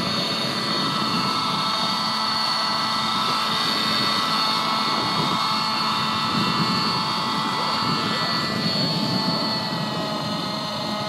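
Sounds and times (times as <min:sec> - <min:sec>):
model helicopter engine whine: 0:00.0 - 0:11.0.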